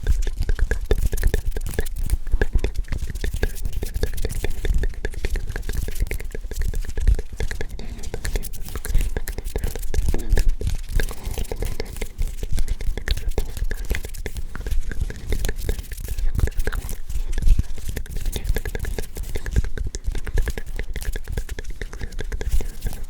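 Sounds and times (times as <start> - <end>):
mouth clicks: 0.0 - 23.0
person whispering: 0.0 - 23.0.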